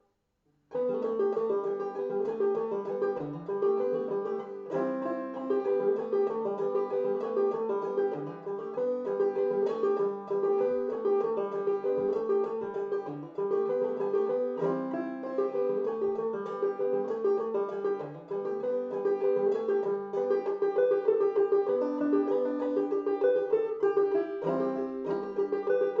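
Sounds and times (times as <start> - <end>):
banjo playing old-time tune: 0.7 - 26.0.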